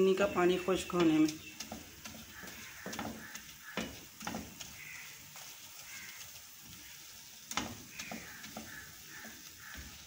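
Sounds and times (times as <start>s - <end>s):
faint sizzle: 0.0s - 10.0s
spatula scraping a frying pan: 0.6s - 10.0s.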